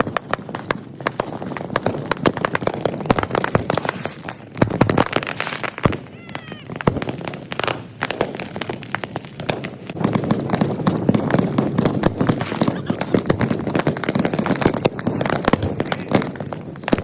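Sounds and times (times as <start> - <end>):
firecrackers popping and banging: 0.0 - 17.0.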